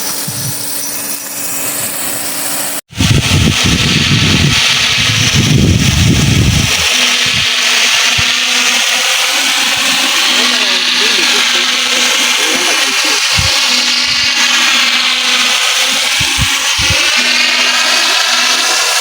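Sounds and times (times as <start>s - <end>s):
sprinkler spraying water: 2.9s - 19.0s.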